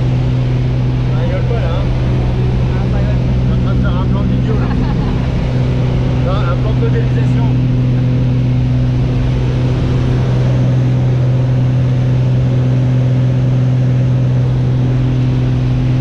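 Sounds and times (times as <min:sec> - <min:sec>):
propeller engine droning: 0:00.0 - 0:16.0.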